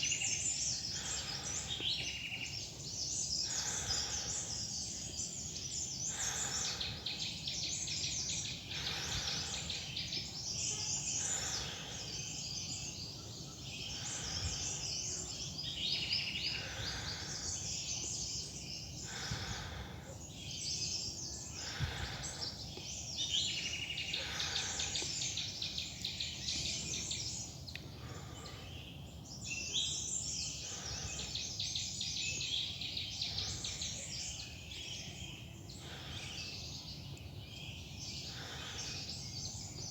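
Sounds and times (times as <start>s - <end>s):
forest birds chirping: 0.0s - 39.9s.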